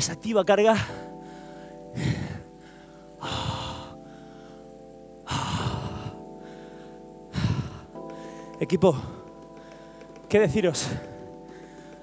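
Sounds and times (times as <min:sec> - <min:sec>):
faint background music: 0:00.0 - 0:12.0
man breathing hard: 0:00.8 - 0:10.3, 0:10.9 - 0:12.0.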